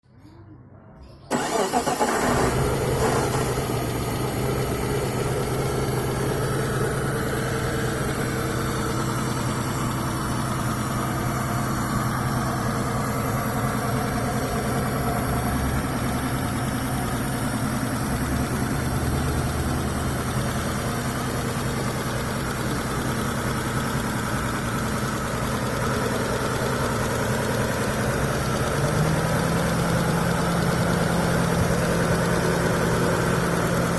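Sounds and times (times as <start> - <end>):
car engine starting and idling: 1.0 - 33.9.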